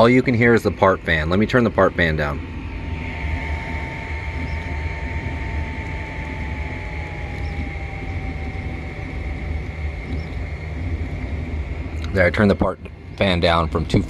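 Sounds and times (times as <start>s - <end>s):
cooling fan whirring: 0.0s - 14.0s
steady low hum: 0.0s - 14.0s.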